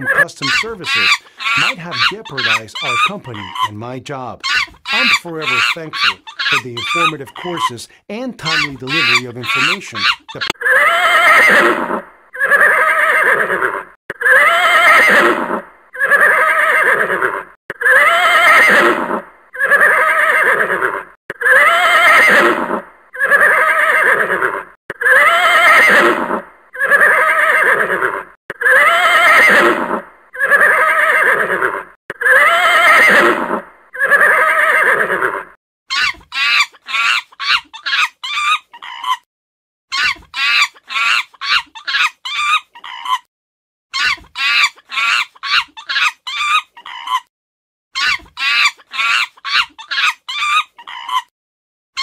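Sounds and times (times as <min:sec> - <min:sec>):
horse whinnying: 0:00.0 - 0:03.8, 0:04.4 - 0:07.8, 0:08.4 - 0:39.3, 0:39.9 - 0:43.3, 0:43.9 - 0:47.3, 0:48.0 - 0:51.3.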